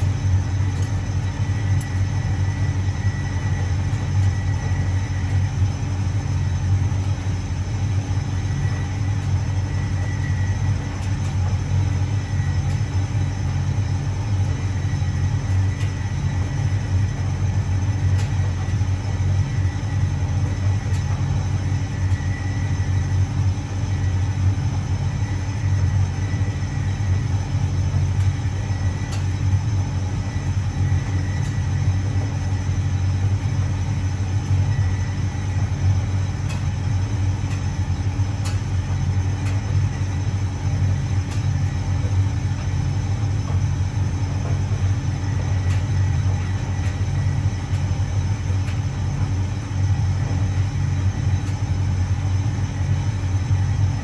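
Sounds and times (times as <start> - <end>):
tumble dryer rumbling: 0.0 - 54.0.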